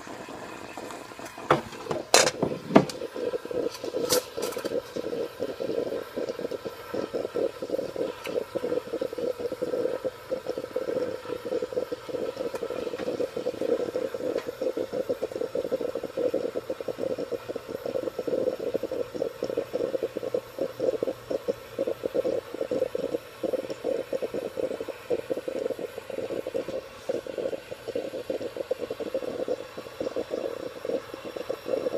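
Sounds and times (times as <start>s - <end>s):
espresso machine spluttering: 0.0s - 31.9s.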